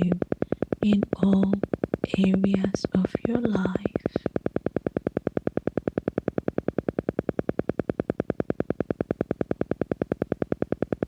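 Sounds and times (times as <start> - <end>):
rapid pulsing tone: 0.0 - 11.0.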